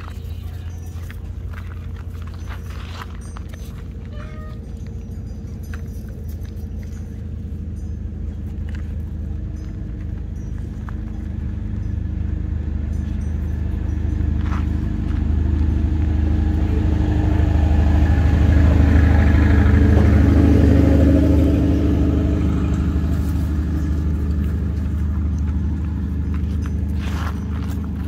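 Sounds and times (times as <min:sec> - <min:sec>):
motor engine running: 0:00.0 - 0:28.0.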